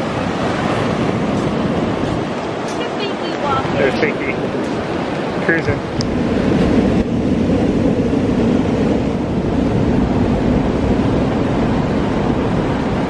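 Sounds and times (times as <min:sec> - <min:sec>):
small waves breaking on beach: 0:00.0 - 0:13.0
wind on microphone: 0:00.0 - 0:13.0.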